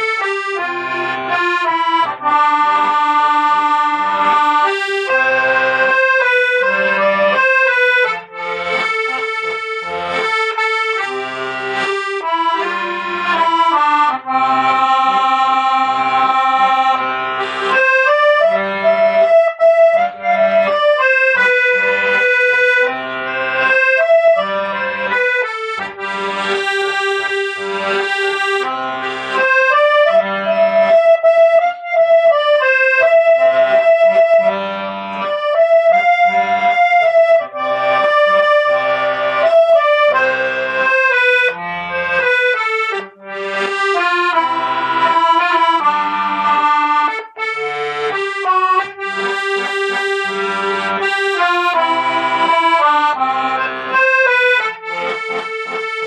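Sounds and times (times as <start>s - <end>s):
accordion slow melody: 0.0s - 56.0s.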